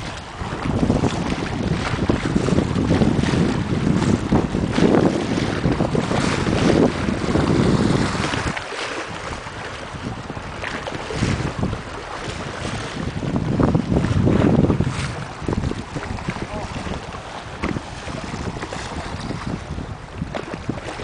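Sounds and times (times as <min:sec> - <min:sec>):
water splashing against rocks: 0:00.0 - 0:21.0
wind buffeting microphone: 0:00.0 - 0:21.0.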